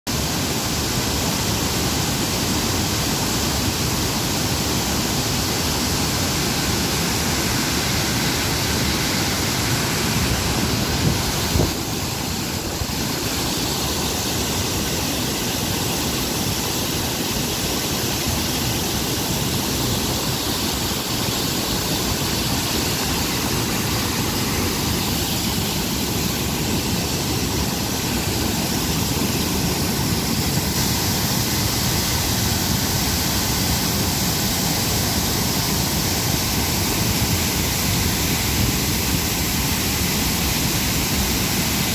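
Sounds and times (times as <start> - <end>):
rushing water: 0.1 - 41.9.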